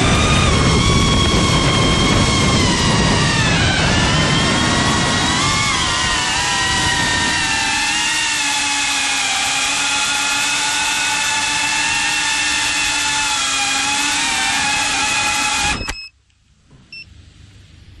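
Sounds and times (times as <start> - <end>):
drone motors whining: 0.0 - 16.1.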